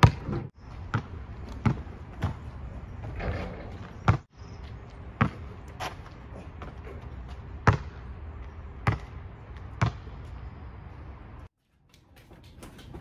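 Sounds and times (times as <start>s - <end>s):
basketball bouncing on asphalt: 0.0s - 10.6s.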